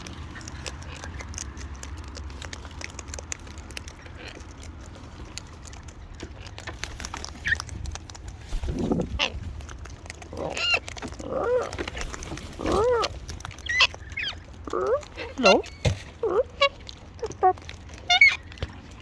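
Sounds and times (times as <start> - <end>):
birds pecking at seed: 0.0 - 19.0.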